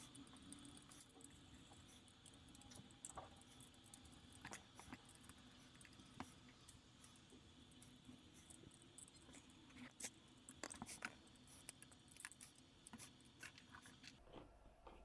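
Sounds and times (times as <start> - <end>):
small handling clicks and scrapes: 0.0 - 15.0.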